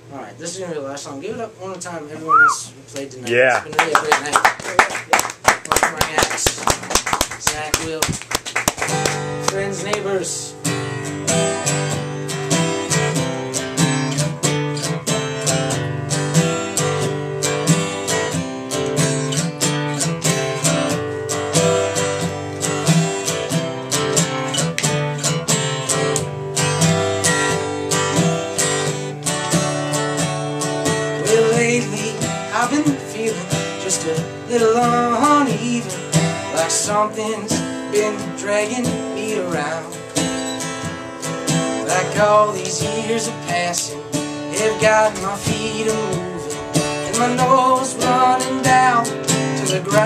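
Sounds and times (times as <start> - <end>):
acoustic guitar strumming: 2.3 - 50.0.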